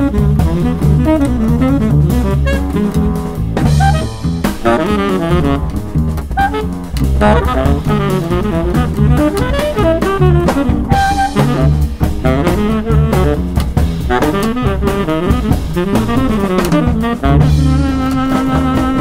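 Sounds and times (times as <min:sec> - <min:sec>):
drums and cymbals: 0:00.0 - 0:19.0
plucked double bass: 0:00.0 - 0:19.0
tenor saxophone: 0:00.0 - 0:19.0.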